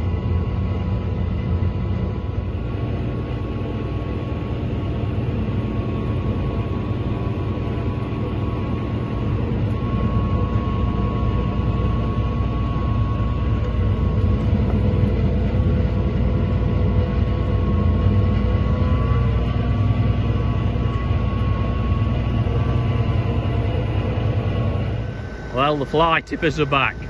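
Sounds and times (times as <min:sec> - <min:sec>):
thin steady whine: 0:00.0 - 0:27.0
tractor engine drone: 0:00.0 - 0:27.0.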